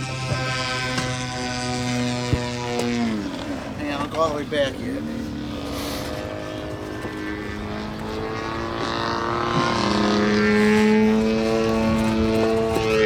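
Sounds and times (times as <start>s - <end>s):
model aircraft buzzing: 0.0s - 13.0s.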